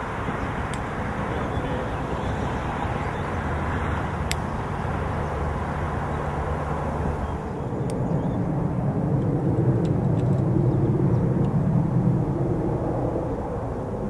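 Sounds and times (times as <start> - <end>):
distant engine drone: 0.0 - 14.0.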